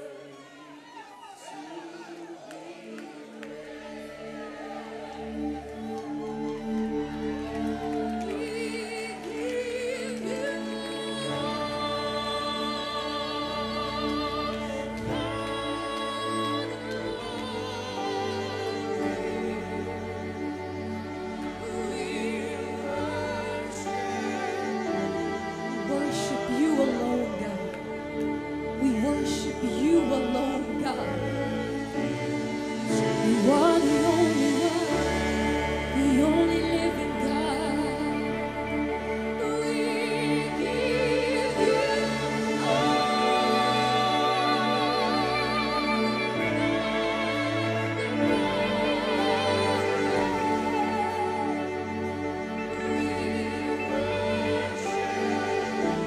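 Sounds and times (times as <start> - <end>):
woman singing: 5.4 - 56.0.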